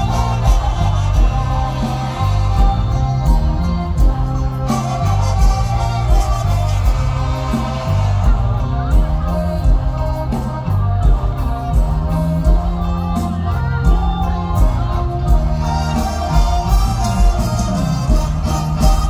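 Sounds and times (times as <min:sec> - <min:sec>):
bass line: 0:00.0 - 0:19.0
drum beat: 0:00.0 - 0:19.0.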